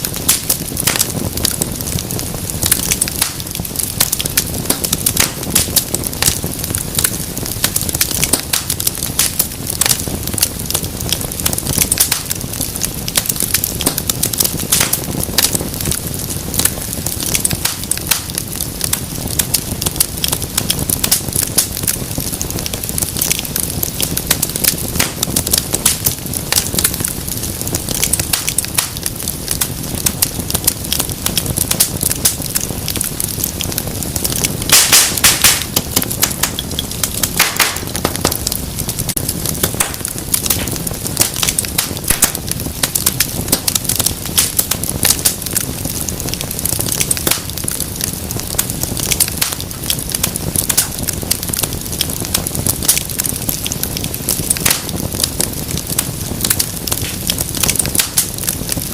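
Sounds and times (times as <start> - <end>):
fire crackling and popping: 0.0 - 58.9.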